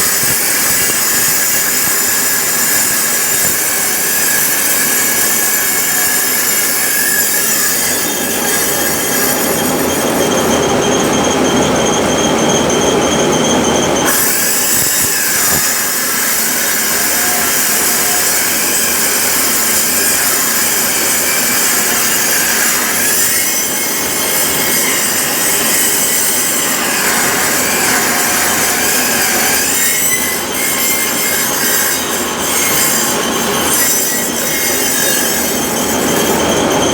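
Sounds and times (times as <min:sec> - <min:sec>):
machine screeching cutting metal pipe: 0:00.0 - 0:36.9.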